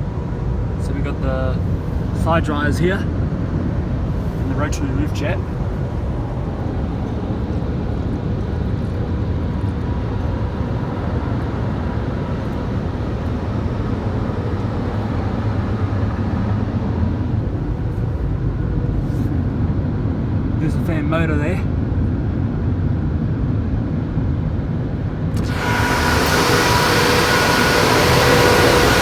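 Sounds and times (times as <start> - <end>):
car wash dryers blowing air: 0.0 - 20.7, 24.9 - 29.0
fan motor hum: 0.0 - 20.7, 24.8 - 29.0.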